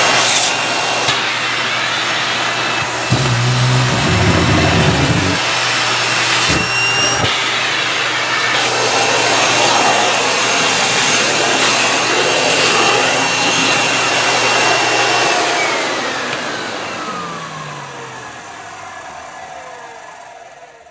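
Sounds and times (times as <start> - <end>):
vacuum cleaner motor whine: 0.0 - 20.6.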